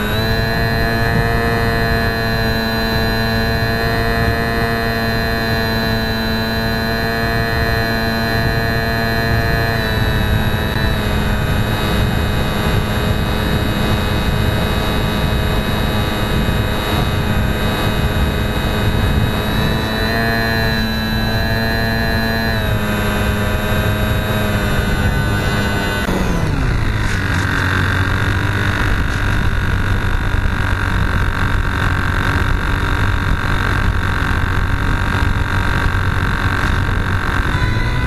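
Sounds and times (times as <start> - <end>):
small electric motor and propeller whining: 0.0 - 38.0.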